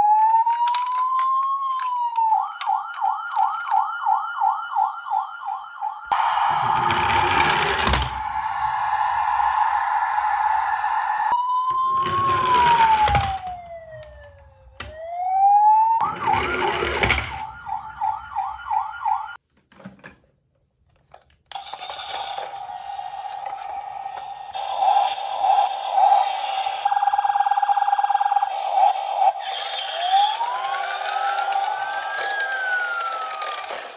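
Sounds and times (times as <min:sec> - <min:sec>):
toy electronic siren: 0:00.0 - 0:19.4, 0:21.5 - 0:33.9.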